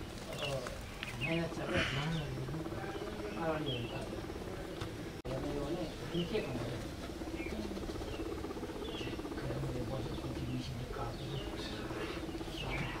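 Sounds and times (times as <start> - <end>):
guinea pigs purring: 0.0 - 13.0
guinea pigs squeaking: 0.0 - 13.0.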